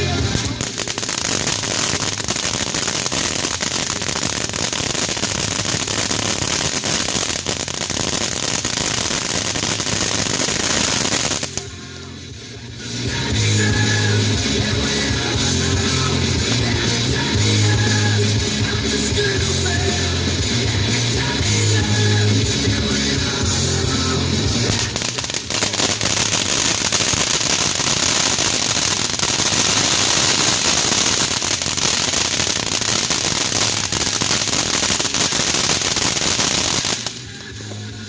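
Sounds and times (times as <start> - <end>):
rock music with bass line: 0.0 - 6.6, 8.9 - 36.3, 37.0 - 38.0
crackling fireworks: 0.0 - 38.0.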